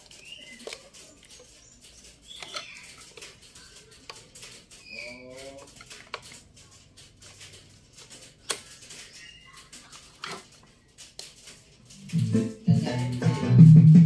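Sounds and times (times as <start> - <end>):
cable connectors clicking: 0.0 - 13.3.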